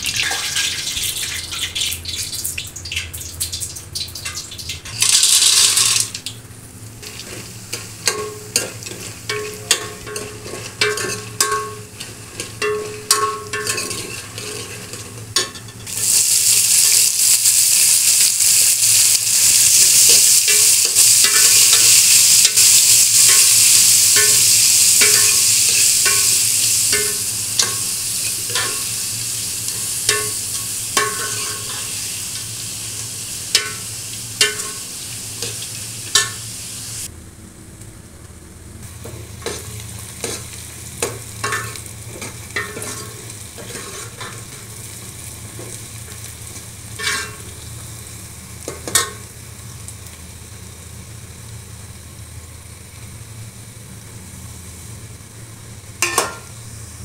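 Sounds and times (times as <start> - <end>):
hot oil sizzling: 0.0 - 37.1, 38.8 - 57.0.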